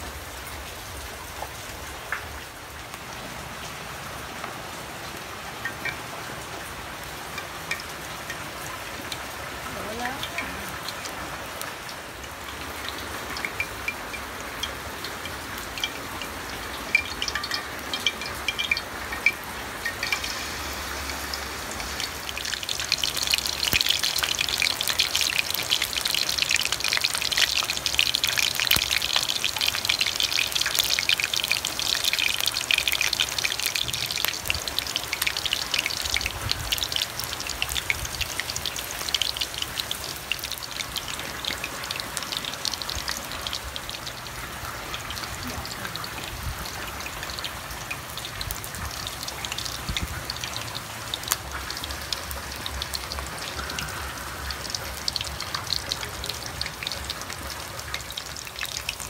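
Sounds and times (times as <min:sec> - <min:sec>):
deep-frying sizzle and crackle: 0:00.0 - 0:59.0.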